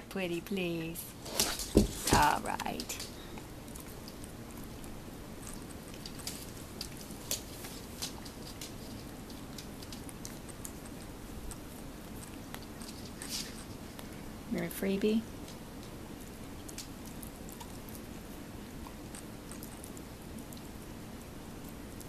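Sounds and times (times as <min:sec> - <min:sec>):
low room hum: 0:00.0 - 0:22.0
dog chewing a treat: 0:03.0 - 0:14.2, 0:15.4 - 0:22.0.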